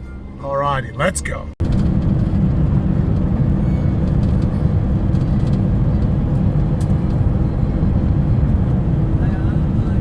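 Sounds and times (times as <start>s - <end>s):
van engine and road rumble: 0.0s - 10.0s.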